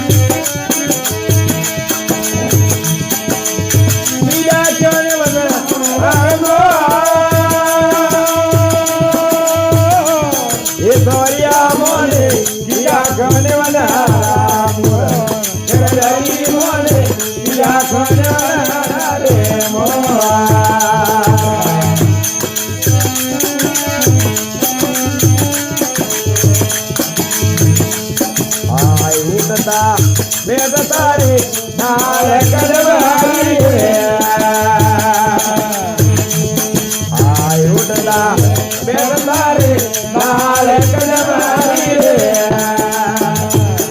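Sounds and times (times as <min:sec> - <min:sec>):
steady drum beat: 0:00.0 - 0:43.9.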